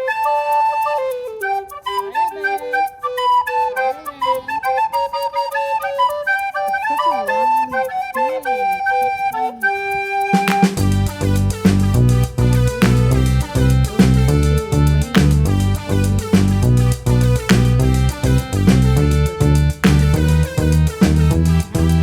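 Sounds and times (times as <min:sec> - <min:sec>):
light ticking percussion: 0:00.0 - 0:22.0
melody of held notes: 0:00.0 - 0:22.0.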